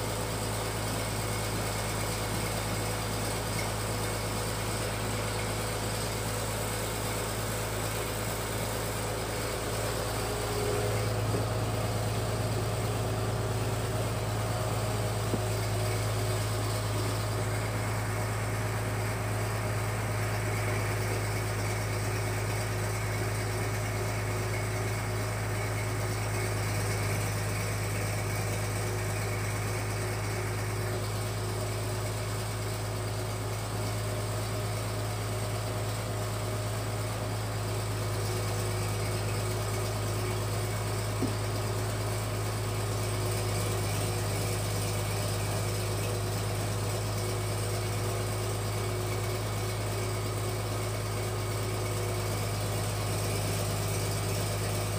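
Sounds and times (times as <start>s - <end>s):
pellet machine humming: 0.0s - 54.9s.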